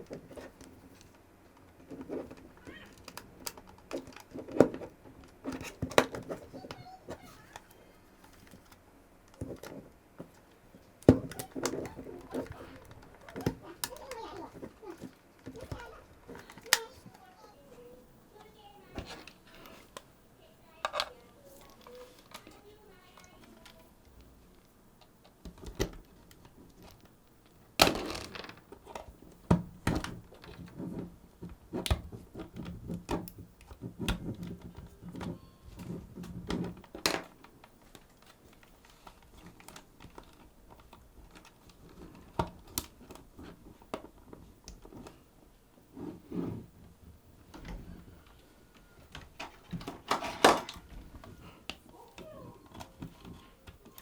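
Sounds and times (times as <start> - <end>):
clicks and taps of plastic parts: 0.0 - 17.3, 20.7 - 45.3, 47.4 - 54.0.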